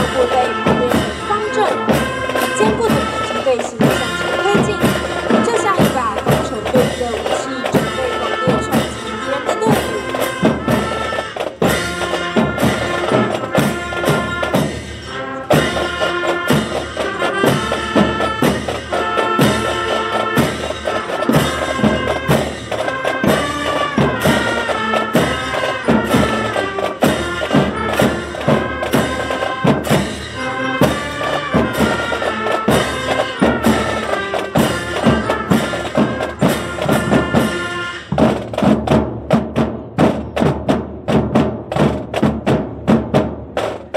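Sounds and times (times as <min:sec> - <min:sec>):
percussion beat: 0:00.0 - 0:43.9.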